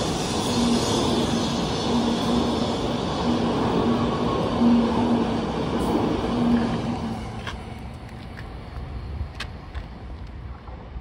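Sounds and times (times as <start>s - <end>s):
train passing on track: 0.0s - 11.0s.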